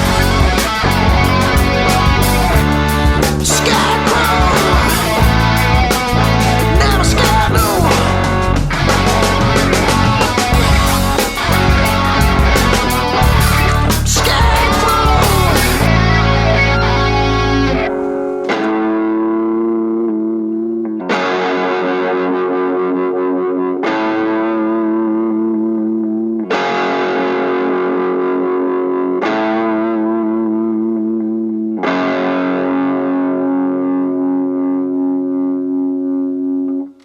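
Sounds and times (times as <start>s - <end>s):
distorted electric guitar chords: 0.0s - 37.0s.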